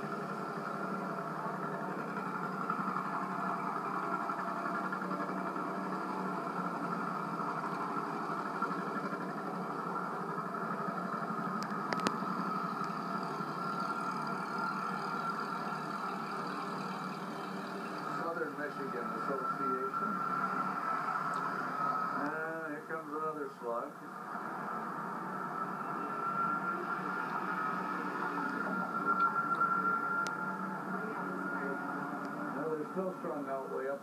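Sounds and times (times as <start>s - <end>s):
tractor engines through tv speaker: 0.0s - 34.0s.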